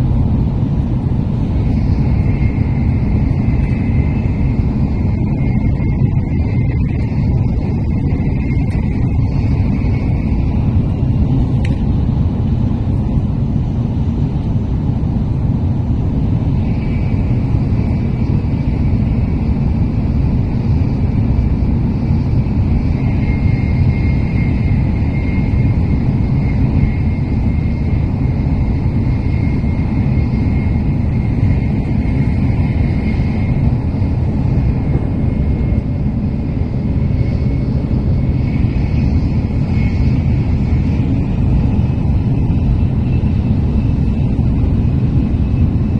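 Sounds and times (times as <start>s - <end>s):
faint high whine: 0.0s - 45.9s
train low rumble: 0.0s - 45.9s.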